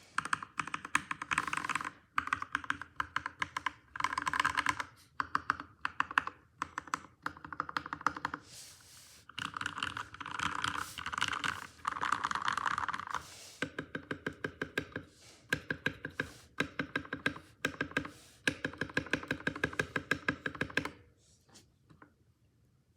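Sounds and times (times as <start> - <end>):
mechanical keyboard typing: 0.2 - 8.4, 9.3 - 21.0.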